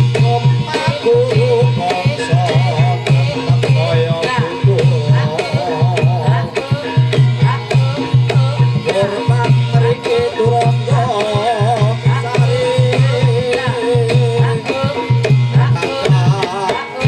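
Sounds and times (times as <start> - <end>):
wavering gamelan melody: 0.0 - 17.0.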